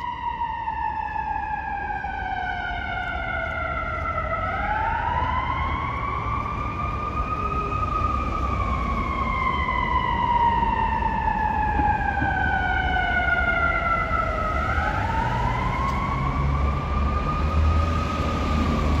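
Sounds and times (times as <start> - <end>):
low traffic rumble: 0.0 - 19.0
siren wailing: 0.0 - 19.0.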